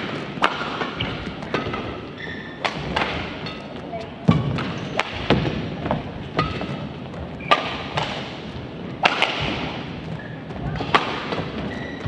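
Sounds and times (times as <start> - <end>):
indoor hall background noise: 0.0 - 12.0
rackets hitting shuttlecock: 0.0 - 12.0.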